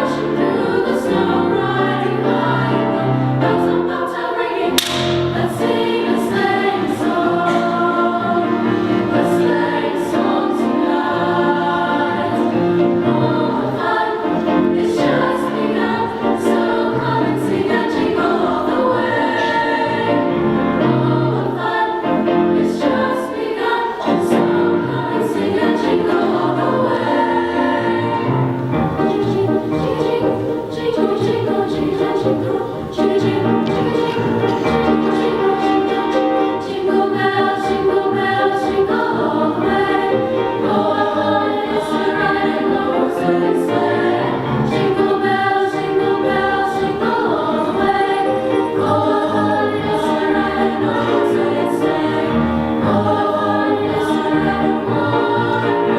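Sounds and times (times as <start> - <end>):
women's choir singing: 0.0 - 55.9.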